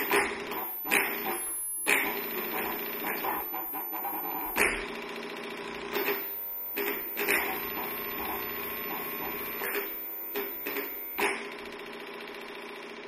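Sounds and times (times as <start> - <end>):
buzzy electronic drone: 0.0 - 11.8.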